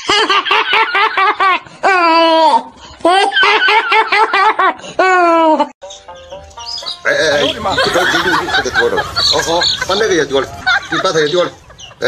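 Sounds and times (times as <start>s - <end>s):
high-pitched laughter: 0.0s - 6.2s, 7.4s - 12.0s.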